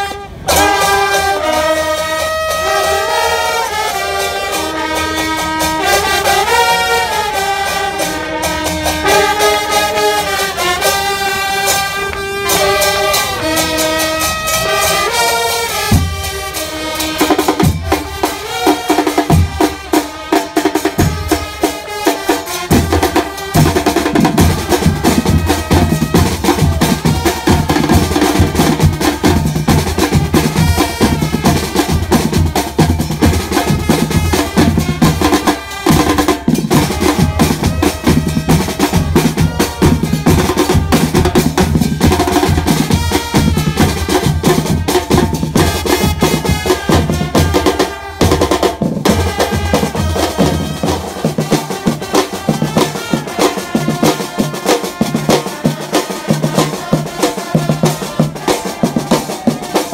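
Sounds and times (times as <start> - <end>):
marching bass drums: 0.0 - 59.9
snare drums: 0.0 - 59.9.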